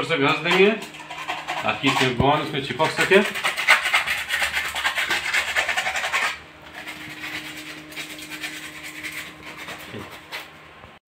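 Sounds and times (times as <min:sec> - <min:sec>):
sandpaper rubbing plastic pipe: 0:00.9 - 0:10.5.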